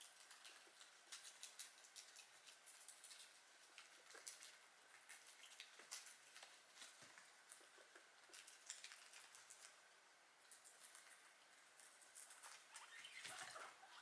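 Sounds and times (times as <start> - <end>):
guinea pigs chewing: 0.0 - 14.0.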